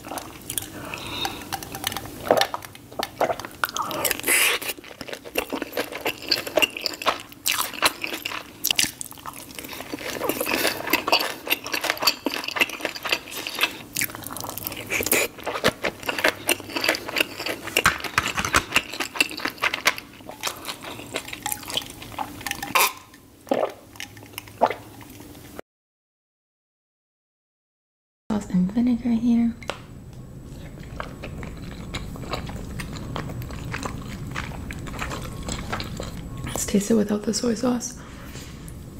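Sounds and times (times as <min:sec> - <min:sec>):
wet chewing: 0:00.0 - 0:25.3, 0:30.4 - 0:36.5.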